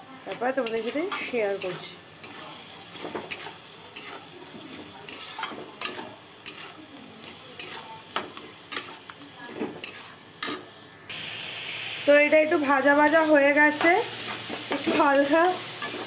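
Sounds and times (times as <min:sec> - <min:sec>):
paste sizzling in oil: 0:00.0 - 0:16.0
metal spatula scraping a pan: 0:00.5 - 0:10.7, 0:13.0 - 0:16.0.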